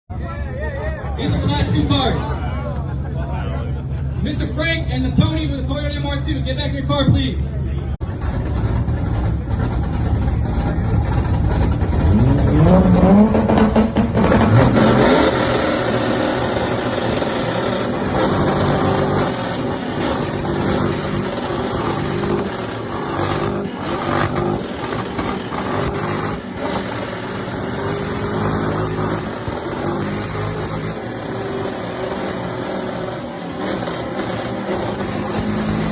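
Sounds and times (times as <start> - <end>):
car engines revving on limiter: 1.2 - 2.4, 8.0 - 35.9.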